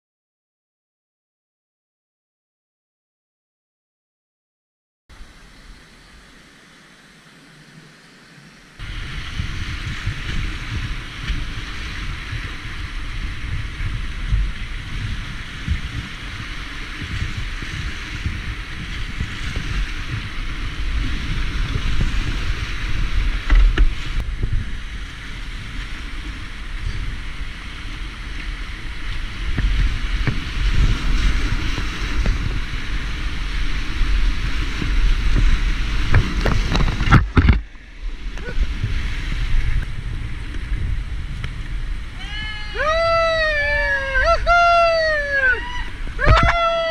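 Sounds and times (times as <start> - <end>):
low buffeting on microphone: 5.1 - 46.9
whitewater rushing and splashing: 5.1 - 46.9.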